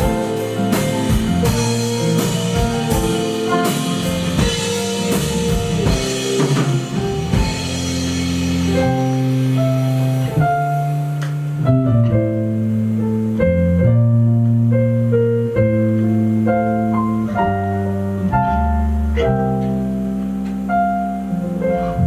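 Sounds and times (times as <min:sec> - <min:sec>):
bass line: 0:00.0 - 0:22.0
piano chords on keyboard: 0:00.0 - 0:22.0.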